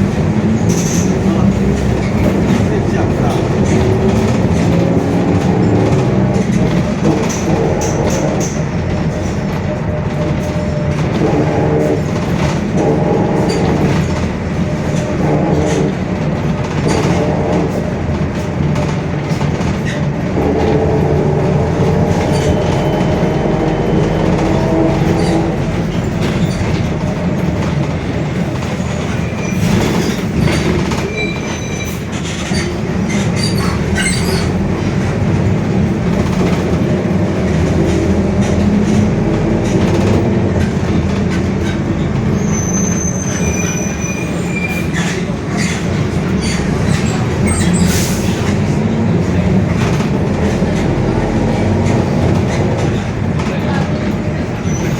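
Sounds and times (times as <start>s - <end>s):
diesel bus engine droning: 0.0s - 54.9s.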